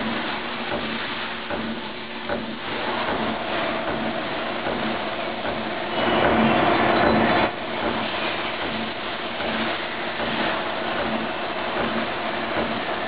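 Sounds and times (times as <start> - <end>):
regular knock of machine stroke: 0.0 - 12.9.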